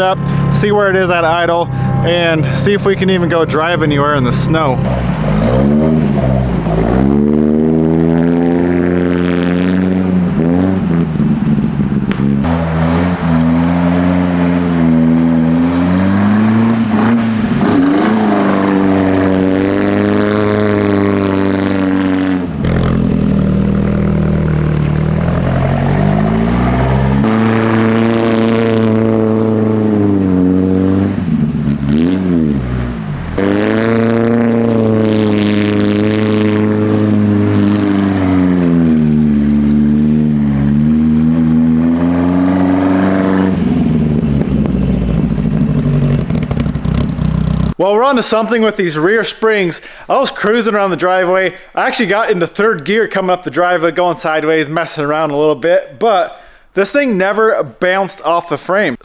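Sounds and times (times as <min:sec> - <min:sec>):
pickup engine revving: 0:00.0 - 0:47.8.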